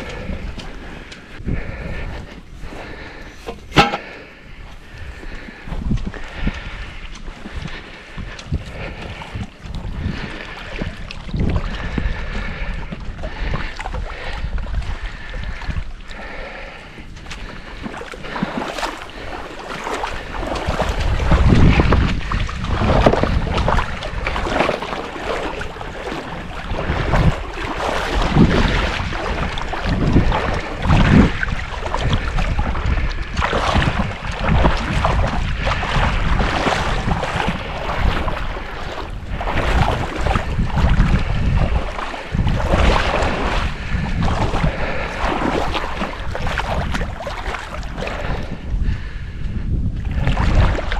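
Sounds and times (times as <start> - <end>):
water sloshing and splashing: 0.0 - 50.9
wind rumbling on microphone: 0.0 - 50.9.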